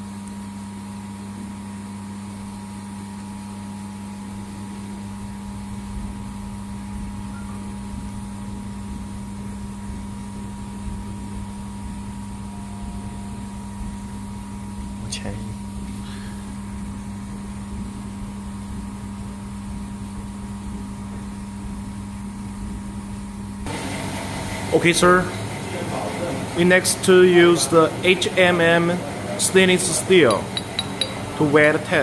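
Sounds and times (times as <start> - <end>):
laser welding machine humming: 0.0 - 32.0.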